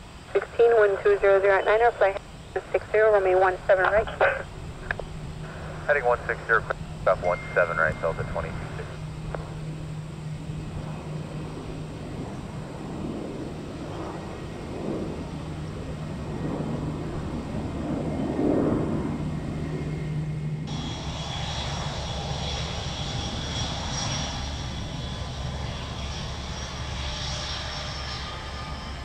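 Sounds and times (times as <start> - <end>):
high turbine whine: 0.0 - 29.0
jet engines running: 0.0 - 29.0.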